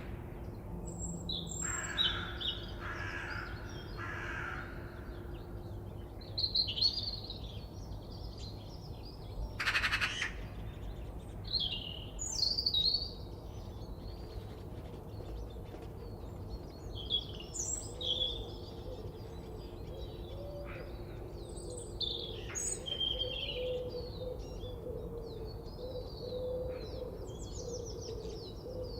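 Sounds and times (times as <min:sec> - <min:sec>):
birds chirping and singing: 0:00.0 - 0:28.9.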